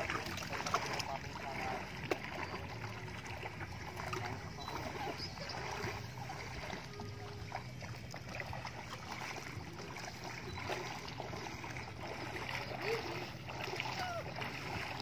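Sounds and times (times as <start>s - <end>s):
faint distant voices: 0.0s - 15.0s
shallow water splashing: 0.0s - 15.0s.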